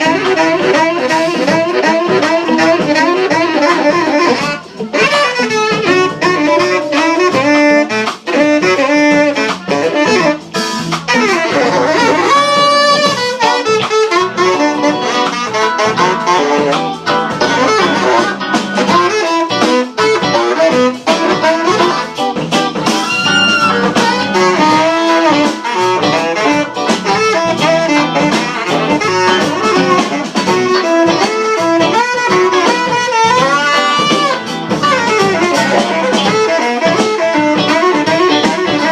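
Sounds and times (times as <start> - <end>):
jazz band playing: 0.0 - 38.9
saxophone solo: 0.0 - 38.9.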